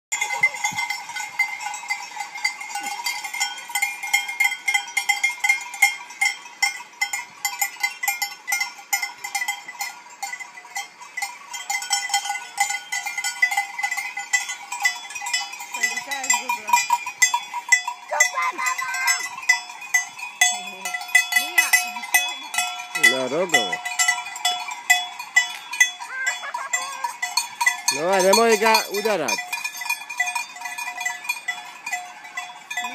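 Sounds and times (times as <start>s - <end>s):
goat bells clanking: 0.1s - 32.9s.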